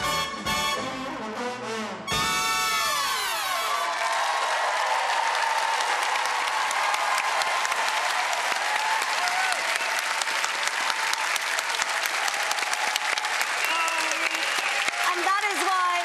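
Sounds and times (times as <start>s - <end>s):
audience applauding: 2.8s - 16.0s
cheers and whoops: 2.8s - 16.0s.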